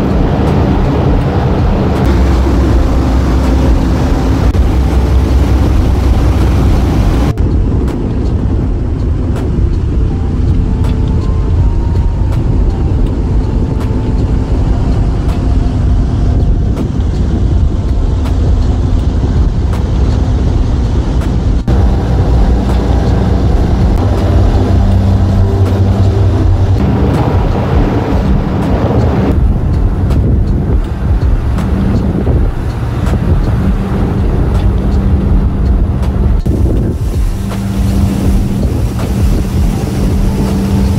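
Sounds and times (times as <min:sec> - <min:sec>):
ferry engines rumbling: 0:00.0 - 0:40.9
wind blowing across microphone: 0:00.0 - 0:40.9.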